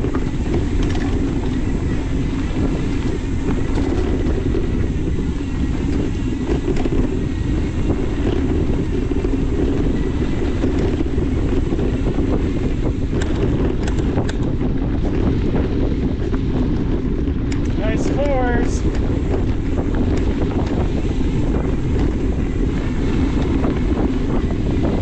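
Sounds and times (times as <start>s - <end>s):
bike tyres rolling on dirt: 0.0s - 25.0s
sharp clicks and rattles: 0.0s - 25.0s
wind buffeting microphone: 0.0s - 25.0s.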